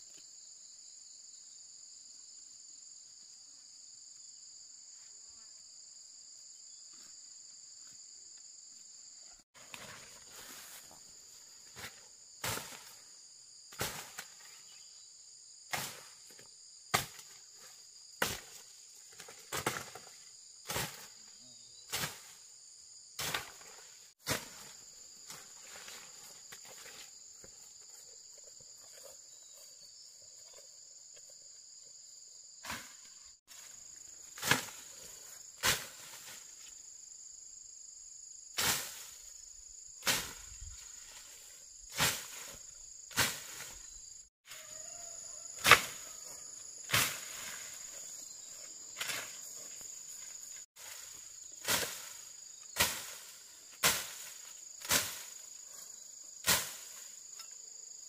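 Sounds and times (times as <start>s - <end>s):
crickets chirring: 0.0s - 58.0s.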